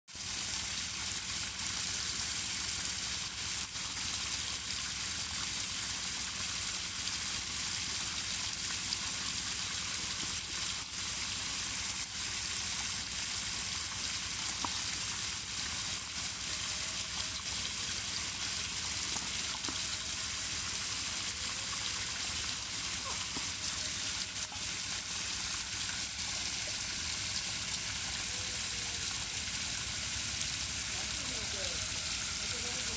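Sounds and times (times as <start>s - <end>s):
running water: 0.1s - 32.9s.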